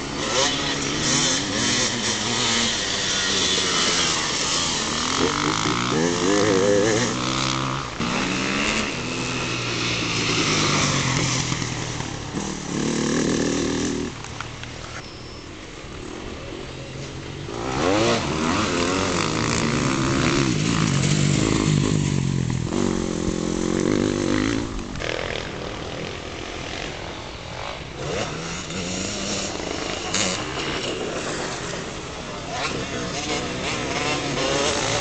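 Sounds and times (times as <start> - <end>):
off-road motorcycle engines revving: 0.0 - 35.0.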